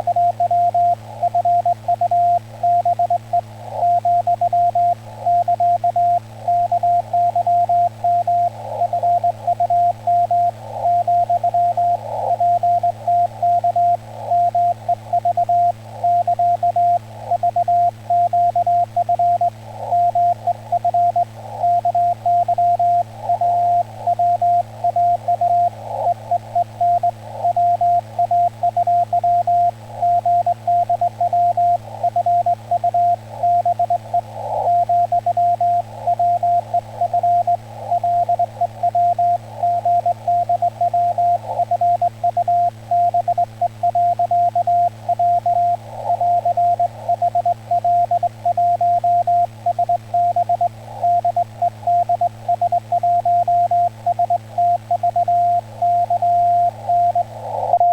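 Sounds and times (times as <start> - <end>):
faint low hum: 0.0 - 57.9
receiver hiss: 0.0 - 57.9.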